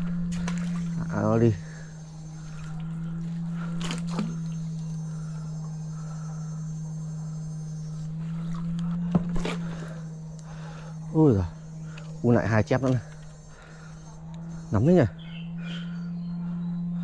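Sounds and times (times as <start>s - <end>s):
faint high whine: 0.0s - 17.0s
low electrical hum: 0.0s - 17.0s.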